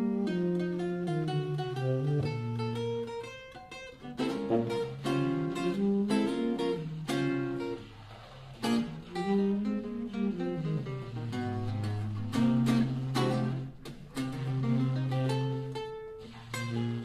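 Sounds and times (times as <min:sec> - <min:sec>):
acoustic guitar playing jazz: 0:00.0 - 0:17.0.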